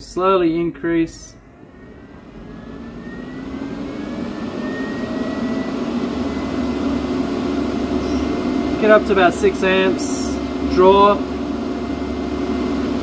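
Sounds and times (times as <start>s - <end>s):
electric fan rushing air: 0.0s - 13.0s
thin fan whine rising in pitch: 0.0s - 13.0s.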